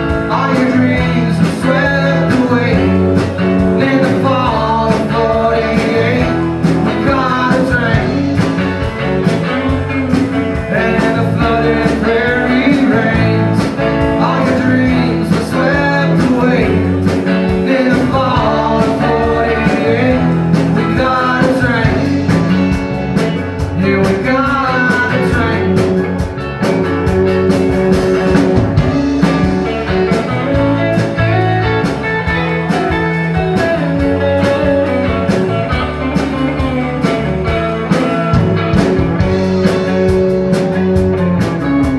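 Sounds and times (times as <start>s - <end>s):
electric guitar lead line: 0.0s - 41.9s
live band playing country rock: 0.0s - 41.9s.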